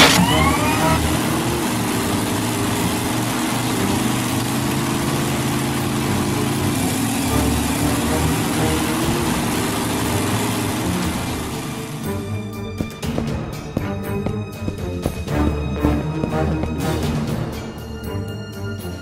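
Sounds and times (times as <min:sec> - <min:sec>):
motor running with low drone: 0:00.0 - 0:15.3.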